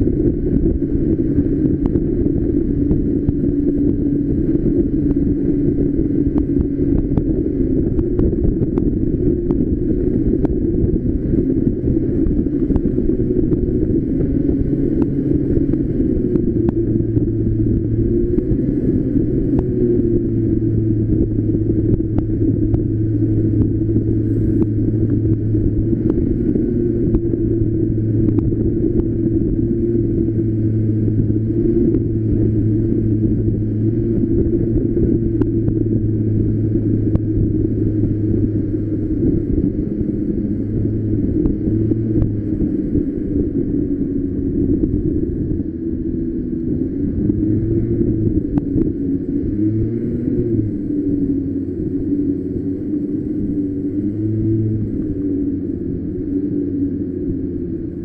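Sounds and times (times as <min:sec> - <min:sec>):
go-kart engine running: 0:00.0 - 0:58.0
road and wind noise: 0:00.0 - 0:58.0.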